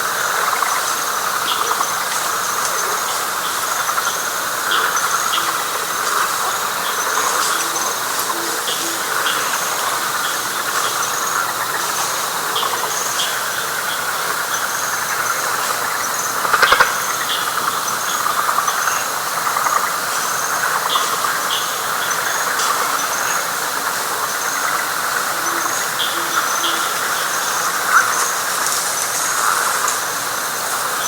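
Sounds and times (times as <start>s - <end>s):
frog rattling call: 0.0s - 23.5s, 24.2s - 31.0s
frogs pulsing trill: 0.0s - 31.0s.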